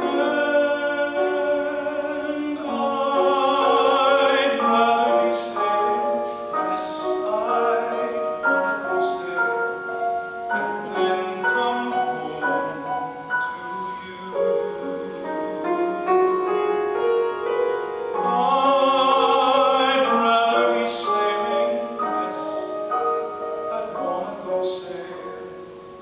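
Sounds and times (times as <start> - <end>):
man singing a slow ballad: 0.0 - 15.9, 18.2 - 25.7
piano accompaniment: 0.0 - 26.0.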